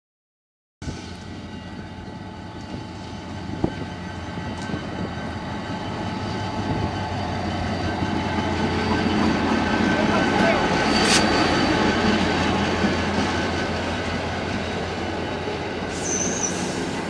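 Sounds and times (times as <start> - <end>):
diesel locomotive engine running: 0.8 - 17.0.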